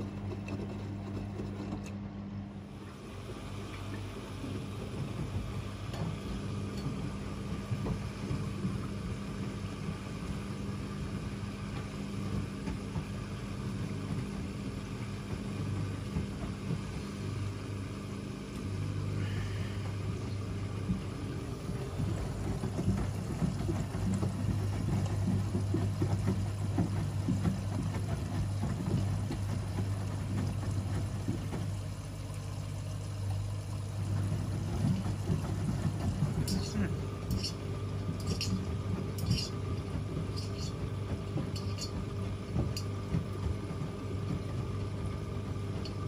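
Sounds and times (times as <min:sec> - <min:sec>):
washing machine drum rumble: 0:00.0 - 0:46.0
washing machine motor hum: 0:00.0 - 0:46.0.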